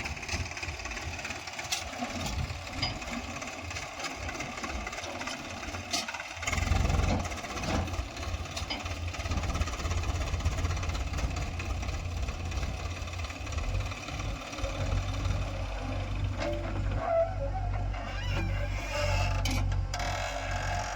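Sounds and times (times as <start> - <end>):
heavy machinery diesel engine: 0.0 - 20.9.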